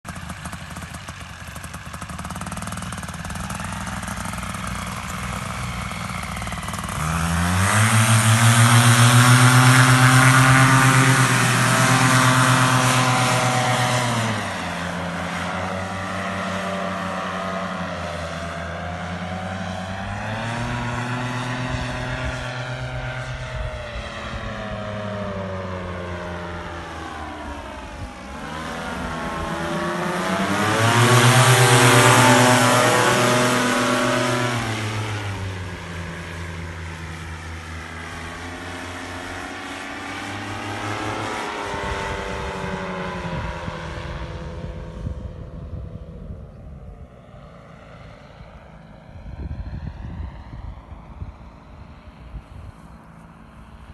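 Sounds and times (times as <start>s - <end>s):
paramotor engine and propeller: 0.0s - 53.9s.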